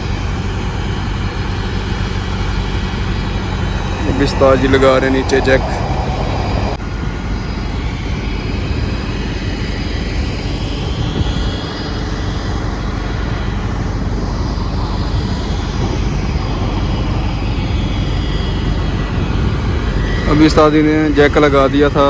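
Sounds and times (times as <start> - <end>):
large engine droning: 0.0 - 22.0.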